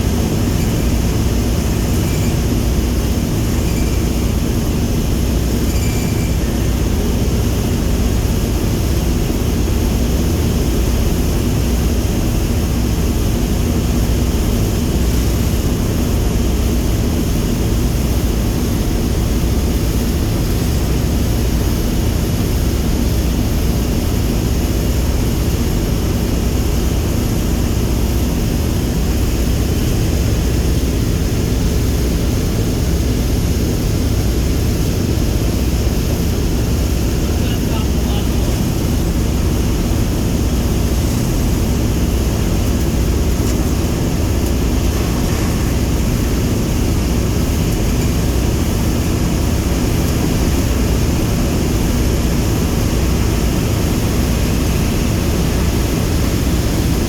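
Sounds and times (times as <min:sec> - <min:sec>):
propeller aircraft engines droning: 0:00.0 - 0:57.0.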